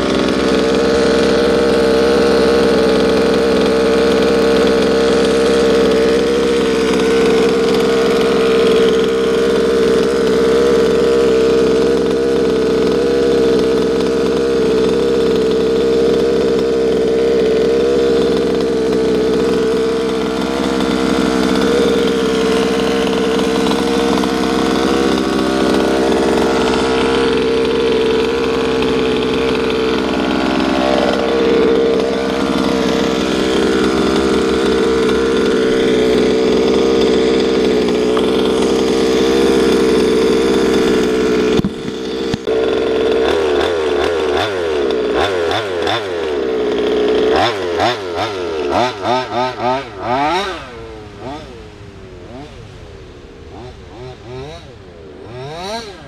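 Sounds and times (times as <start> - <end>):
two-stroke engine running steadily: 0.0 - 56.0.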